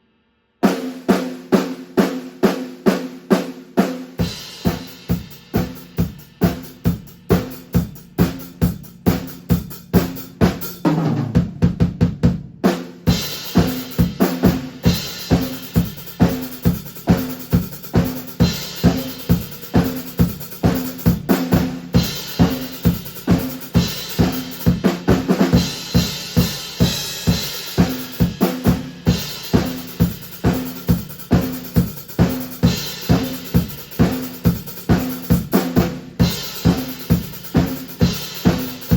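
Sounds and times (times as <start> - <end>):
drum fill: 0.6 - 38.9
drum kit groove: 0.6 - 38.9.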